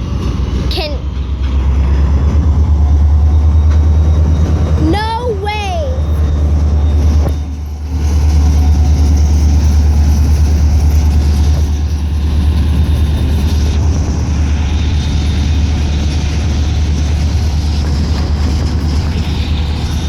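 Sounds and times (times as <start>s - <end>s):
freight train rumbling and rattling: 0.0s - 20.0s.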